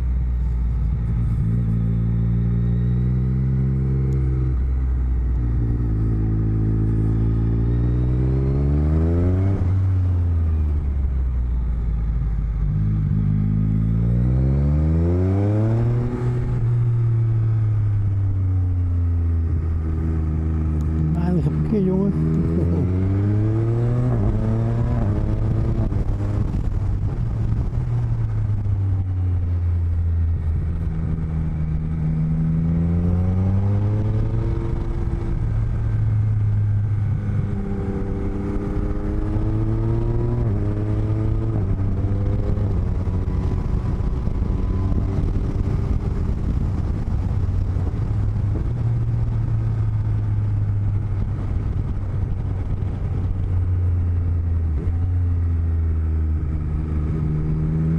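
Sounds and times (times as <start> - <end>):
motorcycle engine accelerating: 0.0 - 57.9
wind and road noise: 0.0 - 57.9.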